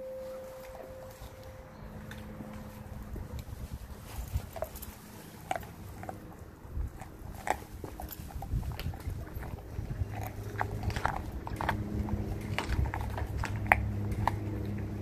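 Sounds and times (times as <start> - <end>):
crunching and sharp clicks: 2.0 - 15.0
dog gnawing bone: 2.0 - 15.0.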